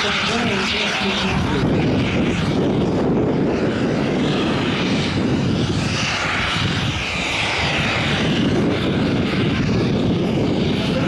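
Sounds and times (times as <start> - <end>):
jet engines with high whine: 0.0 - 11.0.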